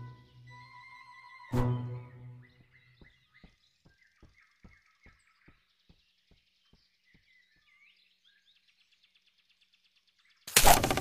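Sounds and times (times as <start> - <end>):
soft bird chirps: 0.0 - 10.6
faint forest ambience: 0.0 - 11.0.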